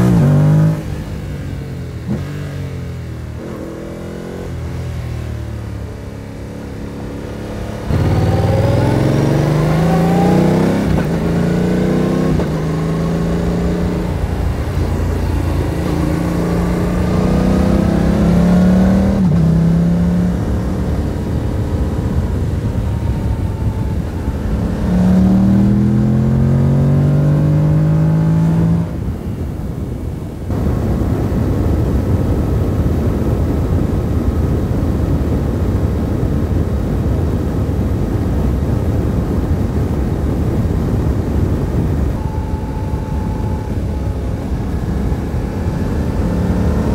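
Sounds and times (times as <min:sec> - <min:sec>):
motorcycle engine accelerating: 0:00.0 - 0:29.8, 0:30.5 - 0:46.9
wind and road noise: 0:00.0 - 0:46.9.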